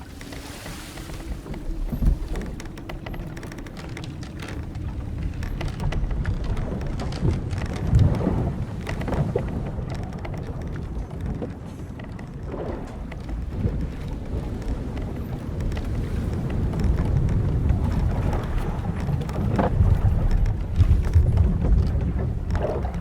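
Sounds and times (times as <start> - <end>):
timber and ropes creaking: 0.0 - 23.0
water washing and splashing: 0.0 - 23.0.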